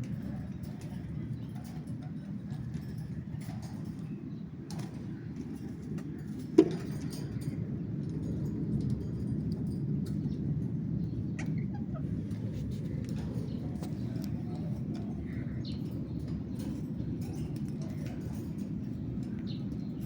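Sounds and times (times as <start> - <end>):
light clicks and scratches: 0.0 - 20.0.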